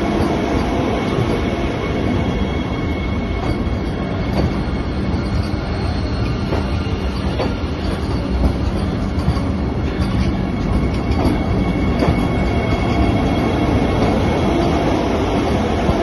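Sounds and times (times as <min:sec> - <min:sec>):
train rumbling slowly: 0:00.0 - 0:16.0.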